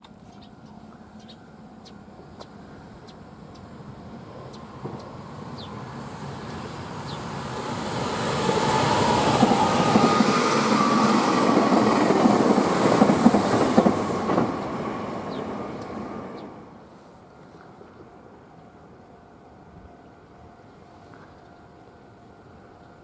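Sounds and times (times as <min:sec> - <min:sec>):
electric train passing: 0:00.4 - 0:23.0.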